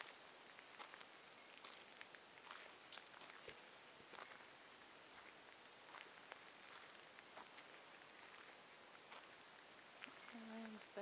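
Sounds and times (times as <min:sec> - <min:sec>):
faint footsteps on gravel: 0:00.0 - 0:11.0.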